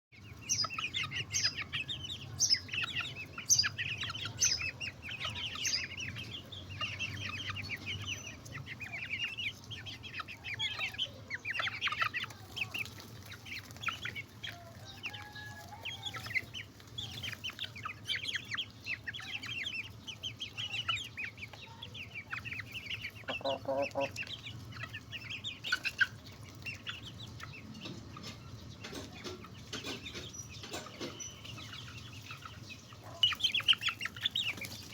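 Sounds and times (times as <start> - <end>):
chickens clucking: 0.2 - 34.9.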